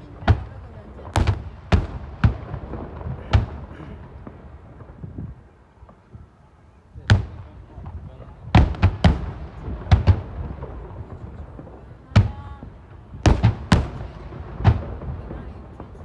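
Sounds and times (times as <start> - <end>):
fireworks bursting: 0.0 - 6.4, 7.0 - 16.0.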